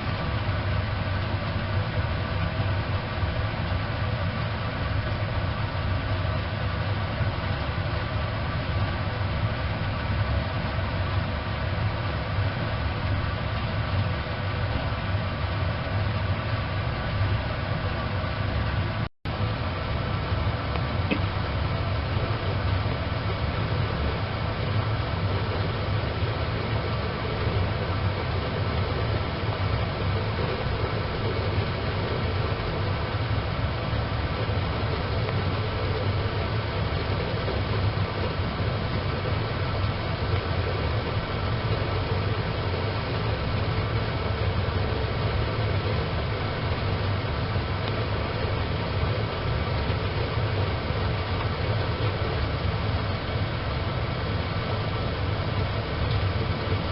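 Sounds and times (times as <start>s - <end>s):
wood fire burning in stove: 0.0s - 56.9s.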